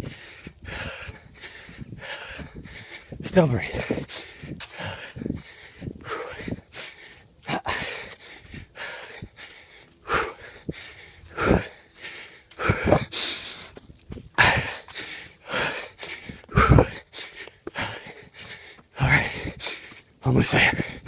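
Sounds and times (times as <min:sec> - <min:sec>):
man panting hard: 0:00.0 - 0:21.0.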